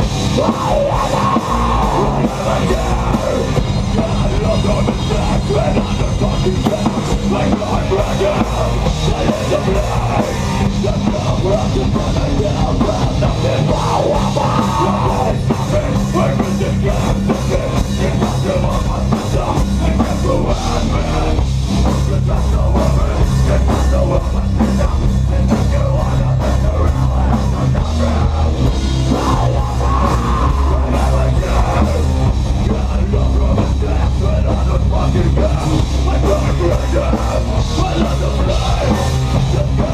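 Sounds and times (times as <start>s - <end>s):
drum kit: 0.0s - 39.9s
live rock band playing: 0.0s - 39.9s.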